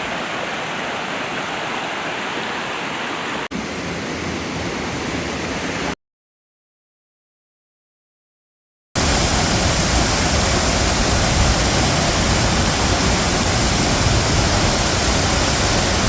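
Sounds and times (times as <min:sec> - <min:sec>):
waterfall rushing: 0:00.0 - 0:06.0, 0:09.0 - 0:16.0.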